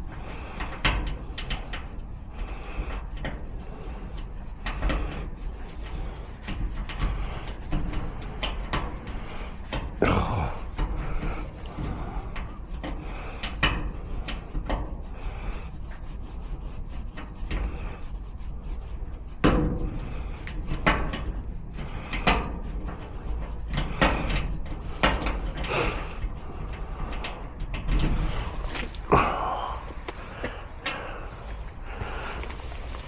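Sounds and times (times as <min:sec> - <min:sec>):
hand scraping and rubbing wood: 0:00.0 - 0:33.0.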